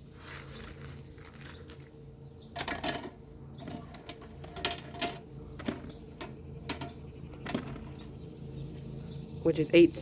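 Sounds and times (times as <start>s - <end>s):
steady low hum: 0.0s - 10.0s
fan parts clicking and rattling: 0.1s - 10.0s.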